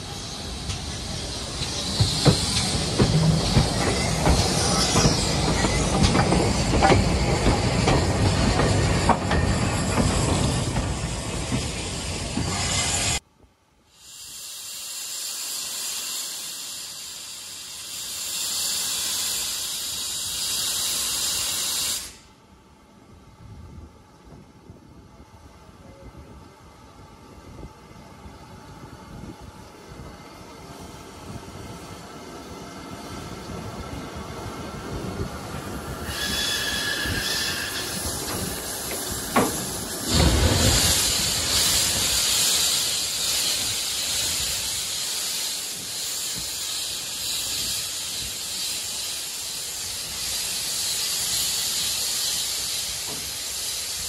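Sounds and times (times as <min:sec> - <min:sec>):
steam locomotive hissing: 0:00.0 - 0:13.2, 0:13.9 - 0:22.5, 0:27.0 - 0:54.0.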